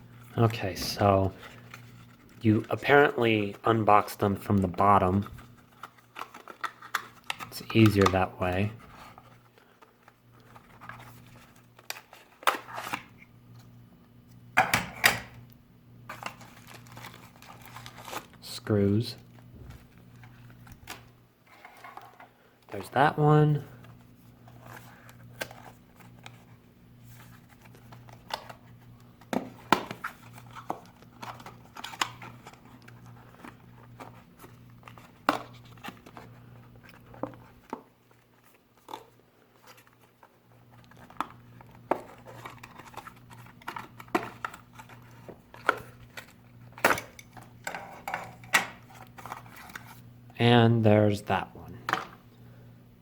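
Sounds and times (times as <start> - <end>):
cardboard and plastic packaging handling: 0.1 - 13.8, 16.1 - 50.1.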